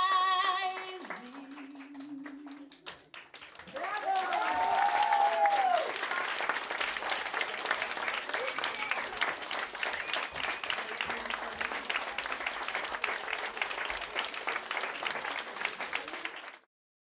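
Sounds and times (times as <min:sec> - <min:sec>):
crowd applauding: 0:00.4 - 0:16.7.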